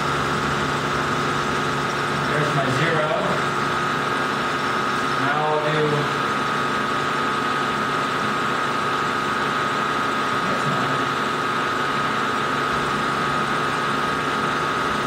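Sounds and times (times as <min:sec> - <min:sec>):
milling machine spindle whine: 0:00.0 - 0:15.0.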